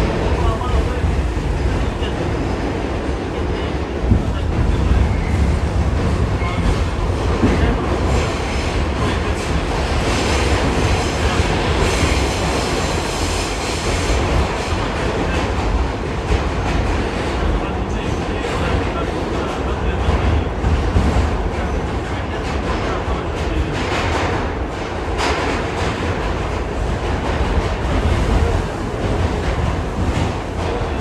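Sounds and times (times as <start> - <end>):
subway train wheels rumbling: 0.0 - 31.0.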